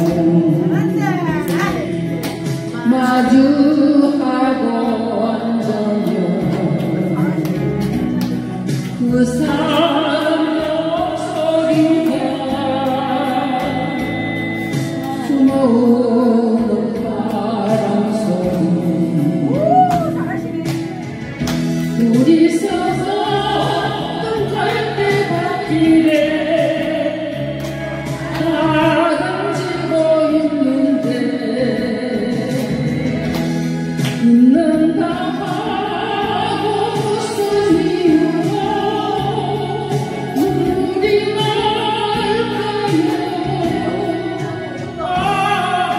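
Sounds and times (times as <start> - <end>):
karaoke backing track: 0.0 - 45.9
woman singing into microphone: 0.0 - 45.9.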